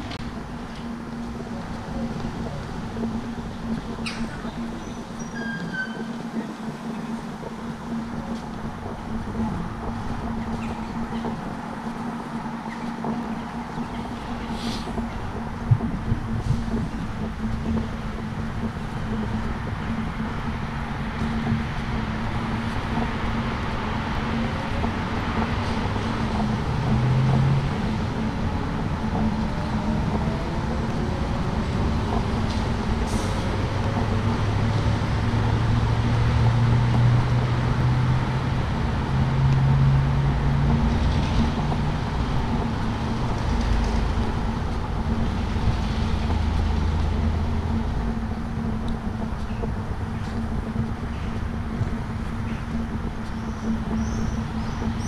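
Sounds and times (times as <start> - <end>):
heavy vehicle engine drone: 0.0 - 55.0
street traffic noise: 0.0 - 55.0.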